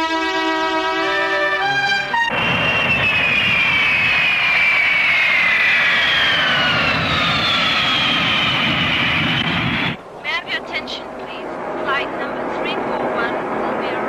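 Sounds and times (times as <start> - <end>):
jet engines with falling whine: 2.3 - 14.0.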